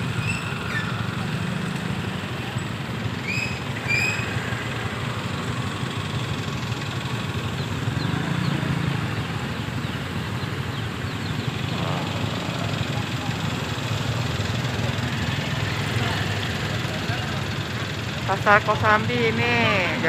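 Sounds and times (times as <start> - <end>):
traffic through floodwater: 0.0 - 20.0.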